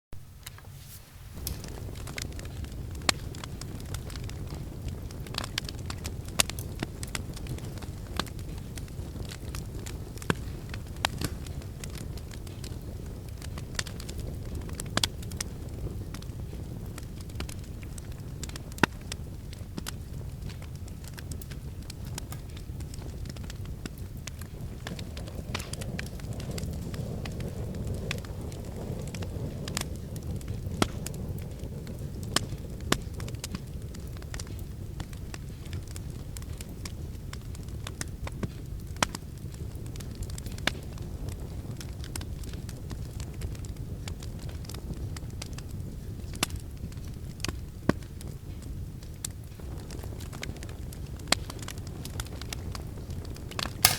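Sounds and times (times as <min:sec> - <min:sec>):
low rumble of flames: 0:00.2 - 0:53.9
wood fire crackling and popping: 0:00.2 - 0:53.9.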